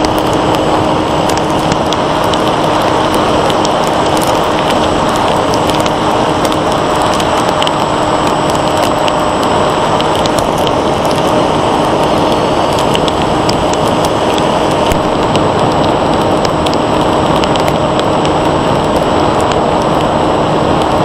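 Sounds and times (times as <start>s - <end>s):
wind rushing over airframe: 0.0s - 21.0s.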